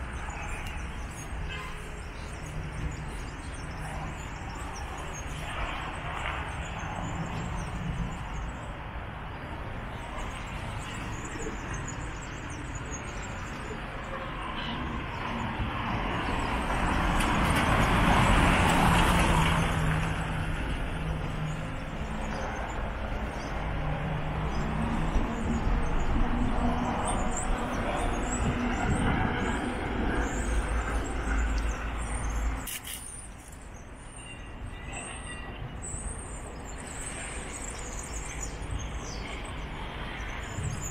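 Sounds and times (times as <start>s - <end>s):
street traffic noise: 0.0s - 40.9s.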